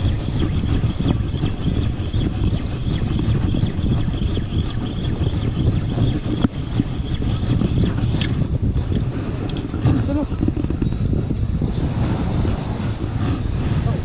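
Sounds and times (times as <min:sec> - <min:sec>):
boat engine running: 0:00.0 - 0:14.0
wind noise on microphone: 0:00.0 - 0:14.0.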